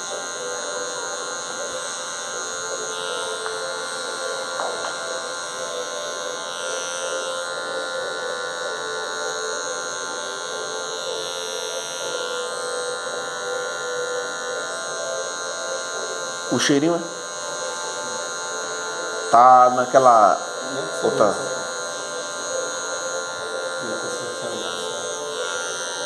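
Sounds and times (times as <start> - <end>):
electric hair clipper buzzing: 0.0 - 26.0.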